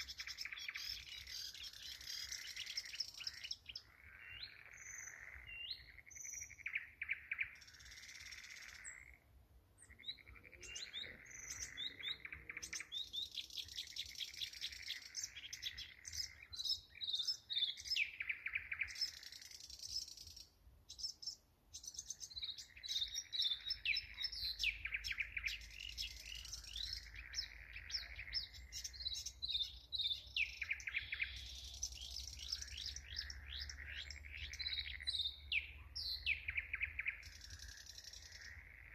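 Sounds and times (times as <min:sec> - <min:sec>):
frogs calling: 0:00.0 - 0:20.5, 0:22.1 - 0:38.9
nightingales singing: 0:00.0 - 0:38.9.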